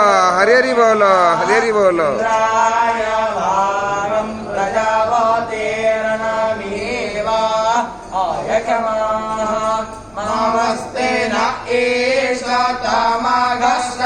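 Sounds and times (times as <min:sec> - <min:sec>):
person chanting a mantra: 0:00.0 - 0:14.0.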